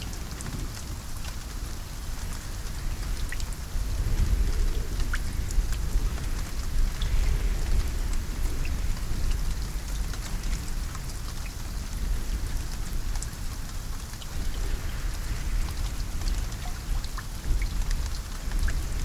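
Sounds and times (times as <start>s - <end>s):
rain drops ticking: 0.0s - 19.0s.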